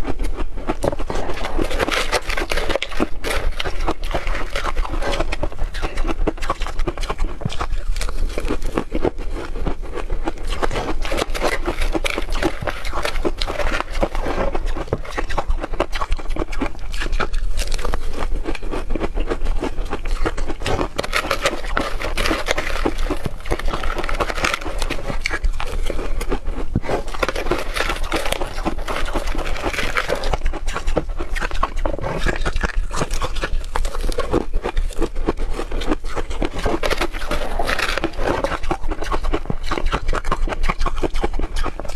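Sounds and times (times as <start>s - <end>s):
ice crunched between teeth: 0.0s - 41.9s.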